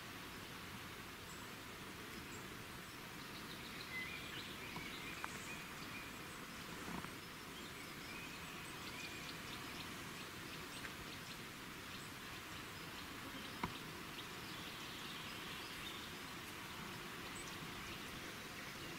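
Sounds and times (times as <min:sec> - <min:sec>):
steady hiss: 0:00.0 - 0:18.9.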